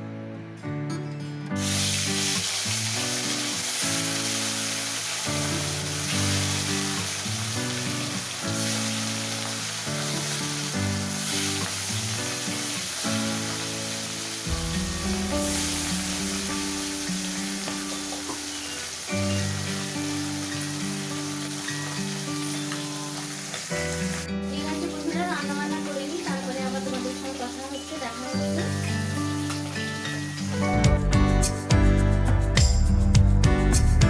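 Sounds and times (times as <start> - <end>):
light background music: 0.0 - 34.0
food sizzling in hot oil: 1.6 - 30.6.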